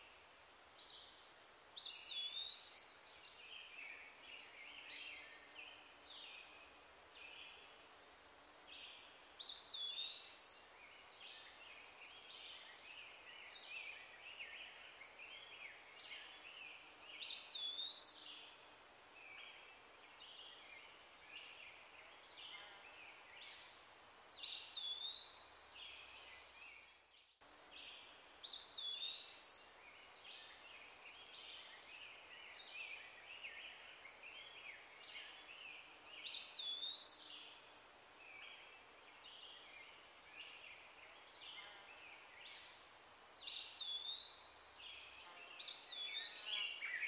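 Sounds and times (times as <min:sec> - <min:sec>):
faint outdoor hiss: 0:00.0 - 0:47.0.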